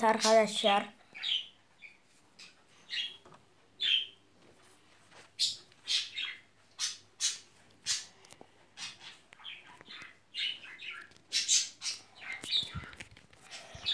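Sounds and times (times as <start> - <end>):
small bird chirping: 1.0 - 4.2, 5.3 - 8.2, 8.8 - 13.9.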